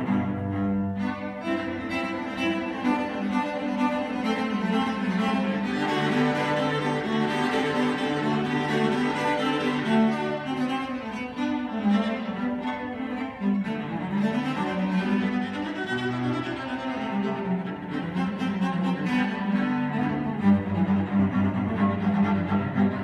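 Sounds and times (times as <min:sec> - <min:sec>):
cello melody: 0:00.0 - 0:23.0
cello sustaining low notes: 0:00.0 - 0:23.0.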